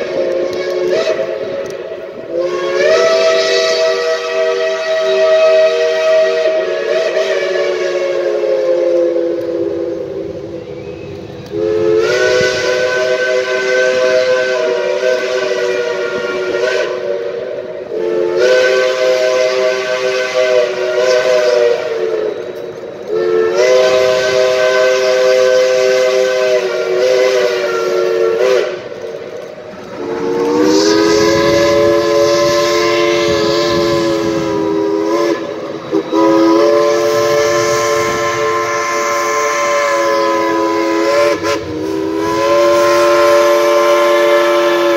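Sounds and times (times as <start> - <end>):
steam locomotive chime whistle: 0.0 - 44.9.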